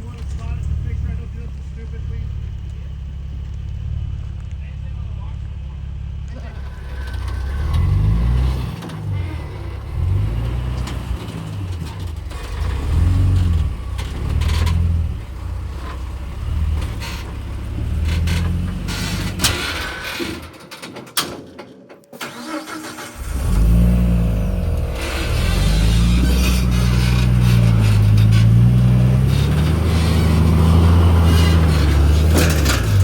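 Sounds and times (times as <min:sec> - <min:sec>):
off-road vehicle engine revving: 0:00.0 - 0:20.2, 0:22.3 - 0:33.0.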